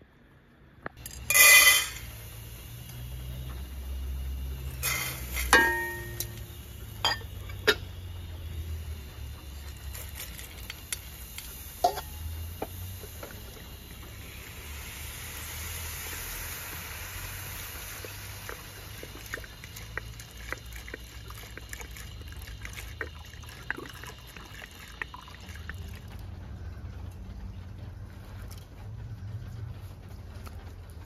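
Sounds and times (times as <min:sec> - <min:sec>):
water pouring into metal pot: 0:01.0 - 0:26.2
water drips: 0:02.1 - 0:27.5.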